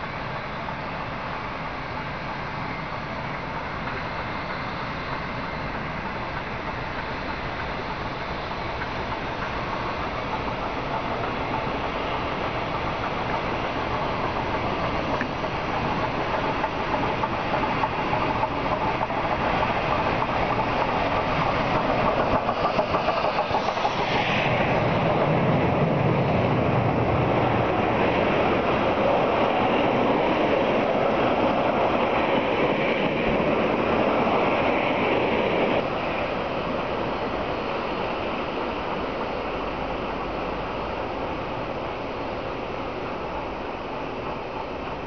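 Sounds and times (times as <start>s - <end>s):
steam train rumbling past: 0.0s - 45.0s.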